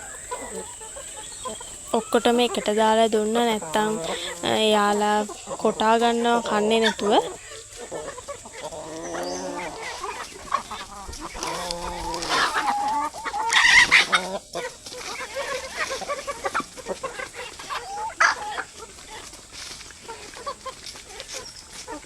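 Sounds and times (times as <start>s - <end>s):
chickens clucking: 0.0s - 22.0s
drawn-out chicken calls: 0.0s - 22.0s.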